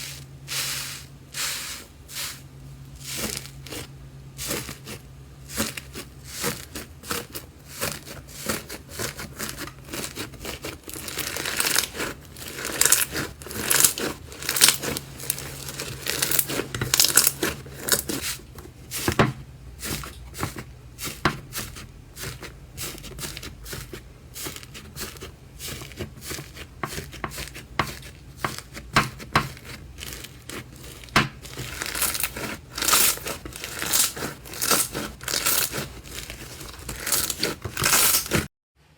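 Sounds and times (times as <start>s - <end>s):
hands squeezing sticky slime: 3.0s - 19.2s, 19.8s - 38.5s.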